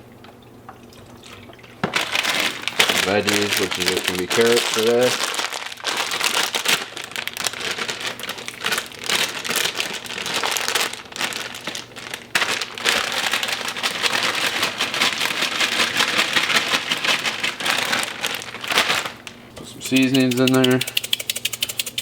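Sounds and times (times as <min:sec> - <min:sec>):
plastic bag crinkling: 0:01.8 - 0:22.0.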